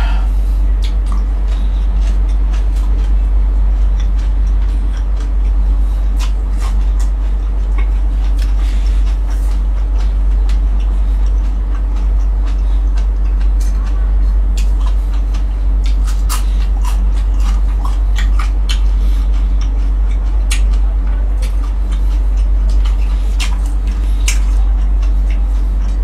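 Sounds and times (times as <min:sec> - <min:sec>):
chewing crispy food: 0:00.0 - 0:26.0
steady low hum: 0:00.0 - 0:26.0.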